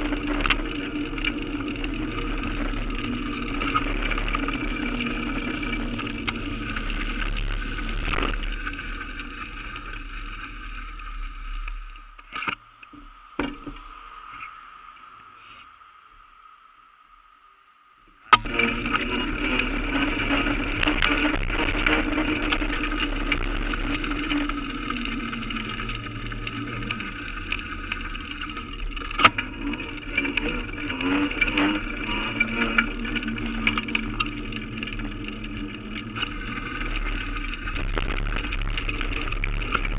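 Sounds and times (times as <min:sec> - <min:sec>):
motorbike running through streets: 0:00.0 - 0:10.8, 0:18.4 - 0:39.9.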